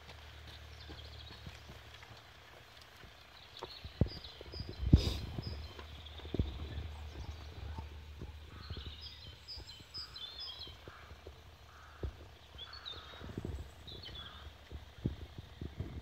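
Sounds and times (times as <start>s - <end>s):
faint rumble: 0.0s - 16.0s
low bumps: 0.0s - 16.0s.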